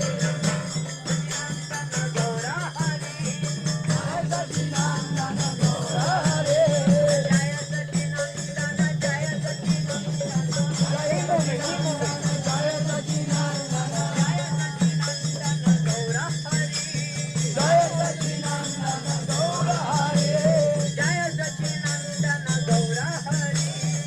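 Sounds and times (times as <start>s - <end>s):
group chanting call and response: 0.0s - 22.3s
hand cymbals clashing: 0.0s - 24.0s.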